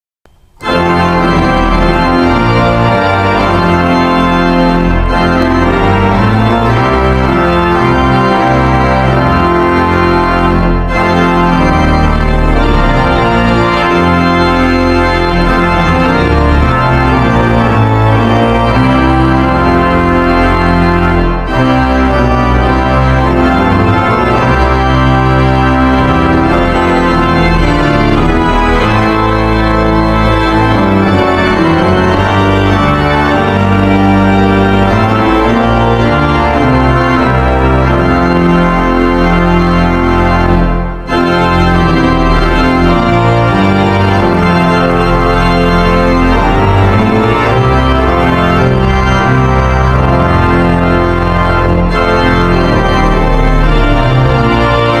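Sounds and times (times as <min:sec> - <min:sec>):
organ playing slow chords: 0:00.3 - 0:55.0.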